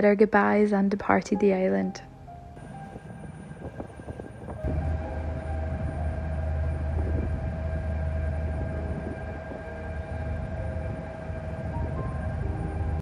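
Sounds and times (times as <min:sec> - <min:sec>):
ship engines droning: 0:01.4 - 0:13.0
steady engine whine: 0:02.6 - 0:13.0.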